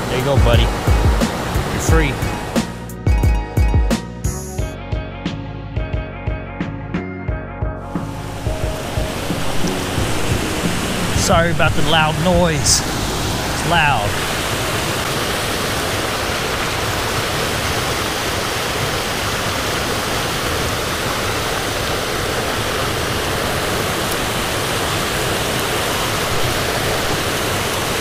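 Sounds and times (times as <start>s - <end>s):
stream rapids rushing: 0.0s - 3.0s, 8.0s - 28.0s.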